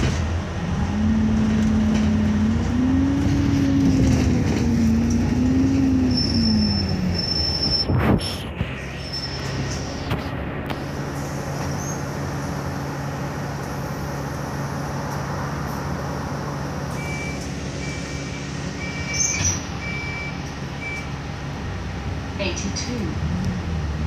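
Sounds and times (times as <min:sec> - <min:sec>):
bus engine humming: 0:00.0 - 0:24.0.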